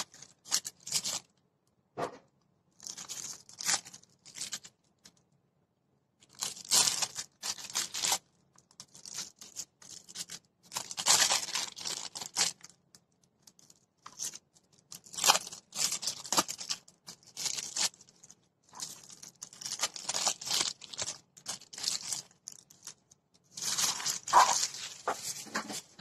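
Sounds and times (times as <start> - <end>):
plastic film rustling: 0.0 - 1.4, 2.8 - 5.2, 6.2 - 26.0.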